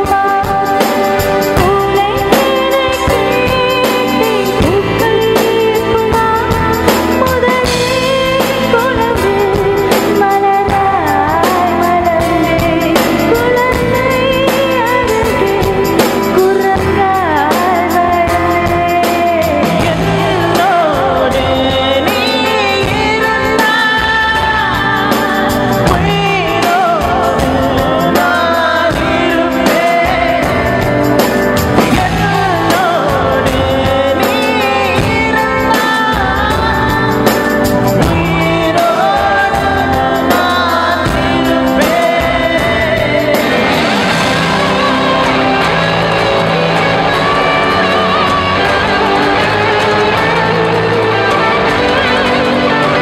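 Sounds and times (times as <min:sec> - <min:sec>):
instrumental backing: 0:00.0 - 0:53.0.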